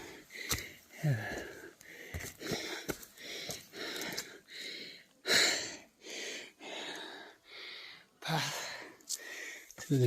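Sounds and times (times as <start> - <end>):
person breathing hard: 0.0 - 9.8.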